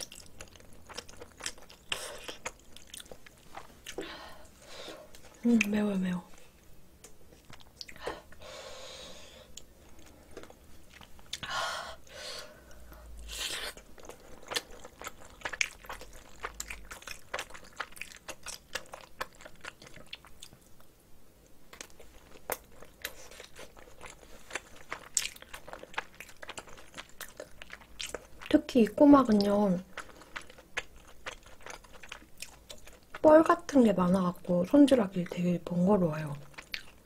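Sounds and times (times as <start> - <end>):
chewing food: 0.0 - 4.4, 7.0 - 8.3, 9.5 - 11.5, 12.6 - 34.4, 36.1 - 37.0.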